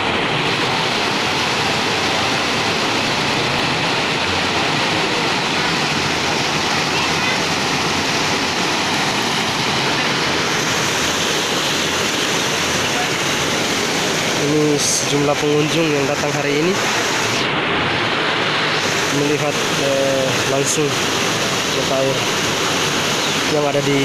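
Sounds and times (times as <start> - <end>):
water rushing down rocks: 0.0 - 24.0.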